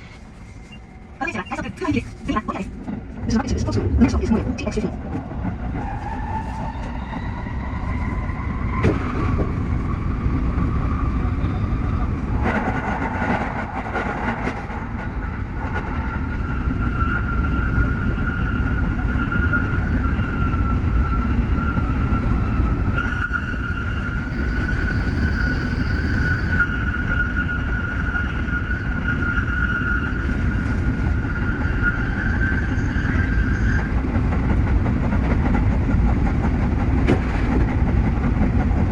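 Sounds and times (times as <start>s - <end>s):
train running gear rumble: 0.0s - 38.9s.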